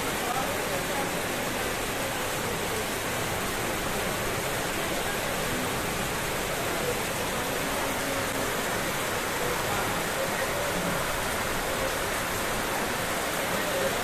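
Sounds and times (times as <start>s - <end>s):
heavy rain on a metal roof: 0.0s - 14.0s.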